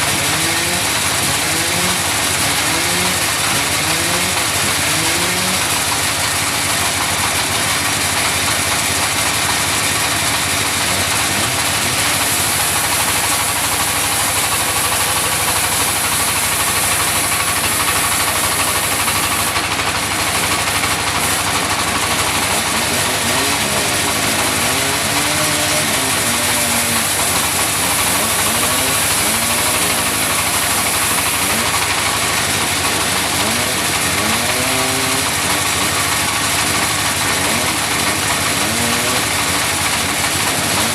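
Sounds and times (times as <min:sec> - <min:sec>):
sawmill saw running: 0:00.0 - 0:40.9.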